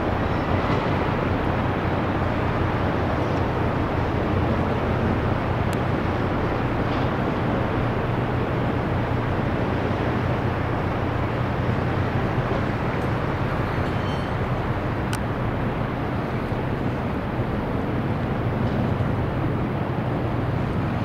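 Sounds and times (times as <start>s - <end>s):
ship engine drone: 0.0s - 21.0s.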